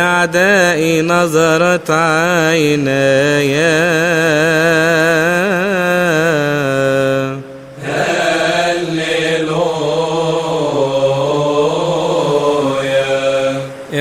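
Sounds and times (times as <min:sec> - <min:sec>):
person chanting held notes: 0:00.0 - 0:14.0.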